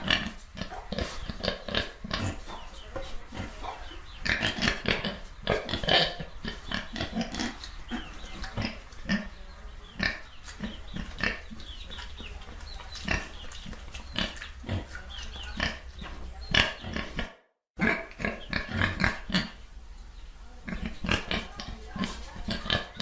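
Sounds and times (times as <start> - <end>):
pigs grunting and oinking: 0.0 - 19.6, 20.6 - 23.0.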